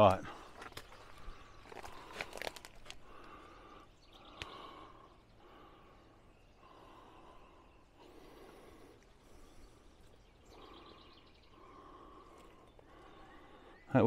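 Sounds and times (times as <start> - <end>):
person breathing heavily: 0.2 - 13.9.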